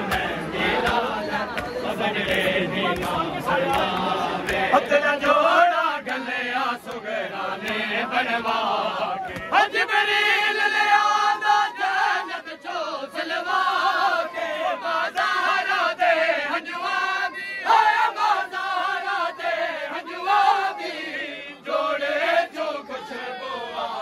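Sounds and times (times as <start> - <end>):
crowd of men chanting: 0.0 - 24.0.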